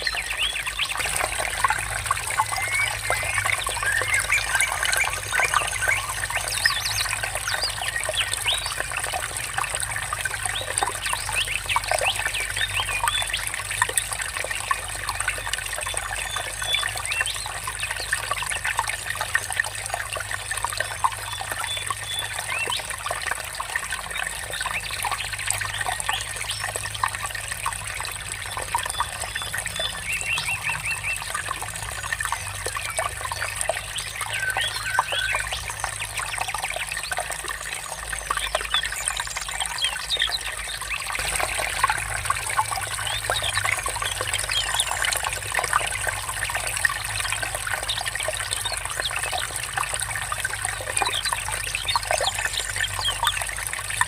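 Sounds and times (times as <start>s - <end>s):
water trickling over stones: 0.0s - 54.0s.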